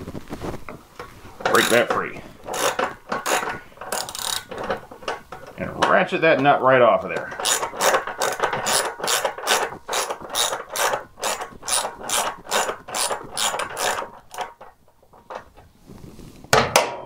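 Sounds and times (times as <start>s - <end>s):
hand ratchet clicking: 1.4s - 15.6s.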